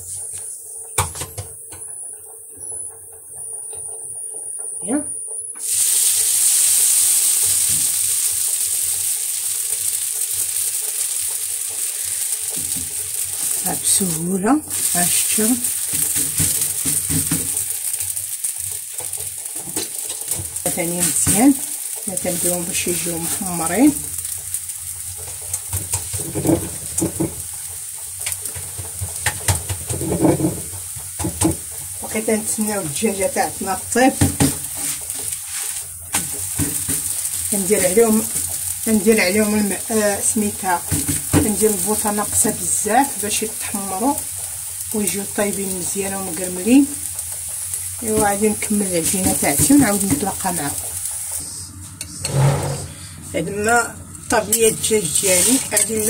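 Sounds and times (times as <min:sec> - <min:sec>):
dough sizzling on a hot pan: 0:00.0 - 0:52.6, 0:53.3 - 0:56.0.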